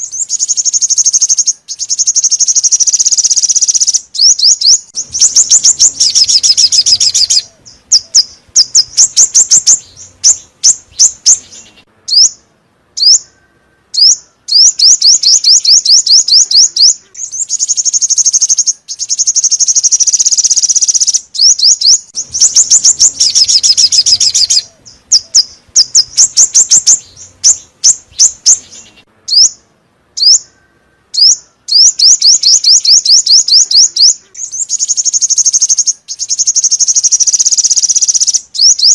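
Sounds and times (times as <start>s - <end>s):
recorded songbird trills: 0.0s - 38.9s.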